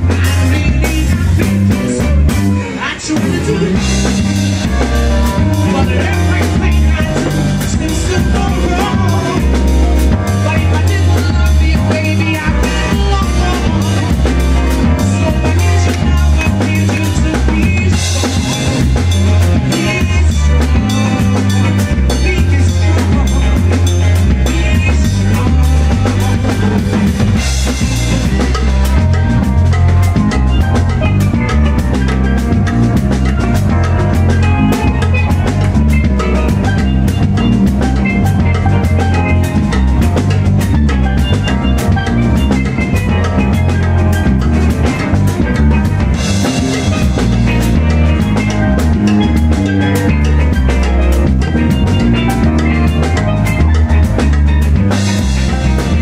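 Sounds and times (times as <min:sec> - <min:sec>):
bass line: 0:00.0 - 0:56.0
drum kit with rimshots: 0:00.0 - 0:56.0
keyboard: 0:00.0 - 0:56.0.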